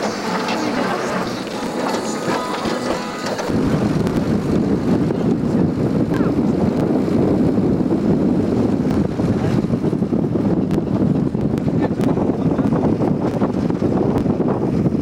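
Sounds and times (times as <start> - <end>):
vehicle rumble on rough road: 0.0 - 15.0
wind buffeting microphone: 0.0 - 15.0.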